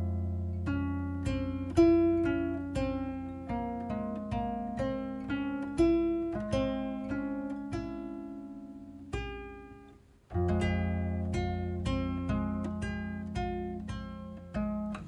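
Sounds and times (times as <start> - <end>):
slow plucked instrumental music: 0.0 - 15.0.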